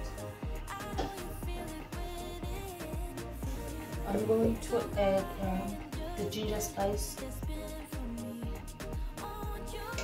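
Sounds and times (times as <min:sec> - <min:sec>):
pop music with steady beat: 0:00.0 - 0:10.0.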